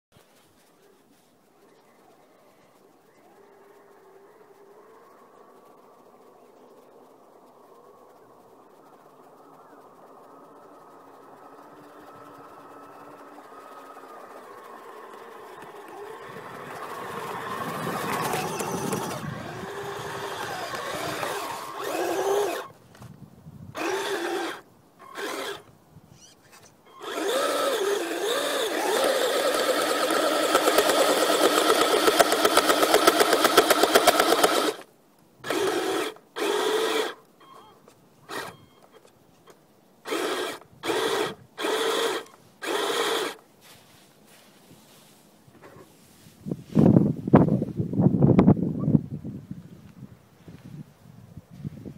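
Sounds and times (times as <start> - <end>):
electric motor and gearbox whining: 2.8 - 44.5.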